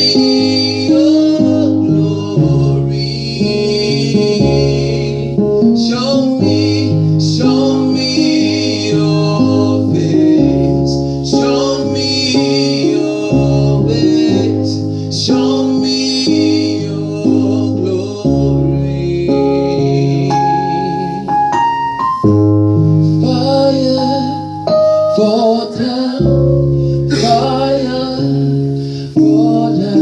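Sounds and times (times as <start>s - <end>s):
person singing: 0.0s - 22.2s, 23.0s - 30.0s
bass line: 0.0s - 30.0s
guitar chords: 0.0s - 30.0s
keyboard chords: 0.0s - 30.0s.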